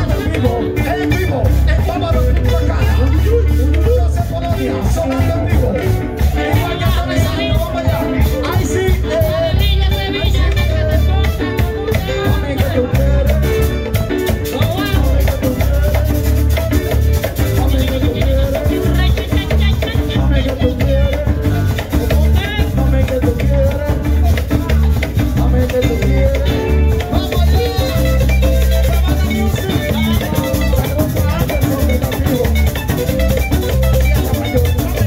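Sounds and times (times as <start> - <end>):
person singing: 0.0 - 35.0
salsa band playing: 0.0 - 35.0.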